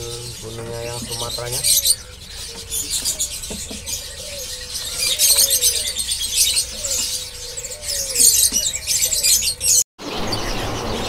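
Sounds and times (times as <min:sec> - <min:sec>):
songbirds chirping and twittering: 0:00.0 - 0:11.0.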